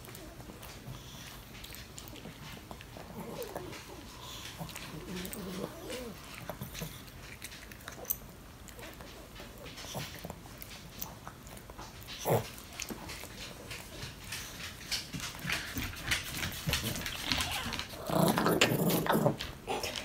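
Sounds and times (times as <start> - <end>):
dog gnawing on a chew: 0.0 - 20.0.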